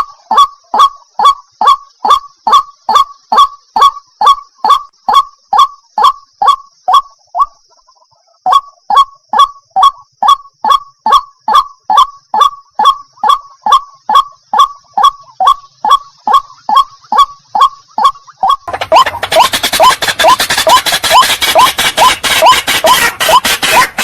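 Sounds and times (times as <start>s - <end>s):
water hen calling: 0.0s - 7.8s, 11.1s - 24.0s.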